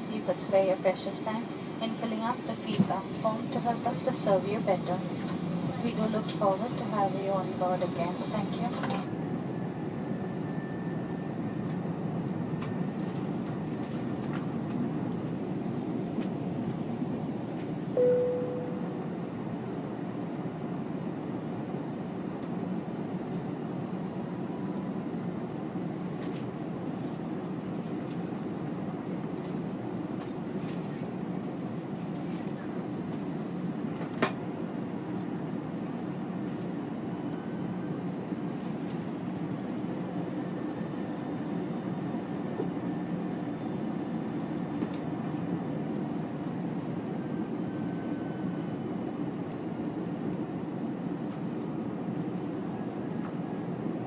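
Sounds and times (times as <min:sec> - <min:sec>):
airliner engines: 0:00.0 - 0:54.0.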